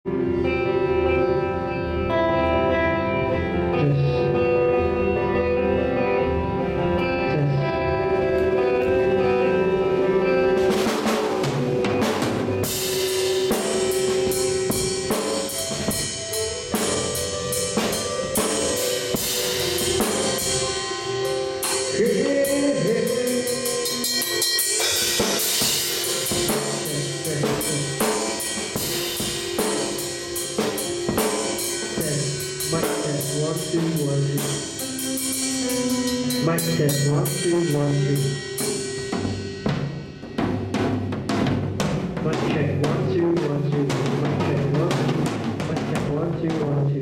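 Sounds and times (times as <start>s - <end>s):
steady pitched tone: 0.1s - 41.8s
drum kit playing: 4.6s - 47.0s.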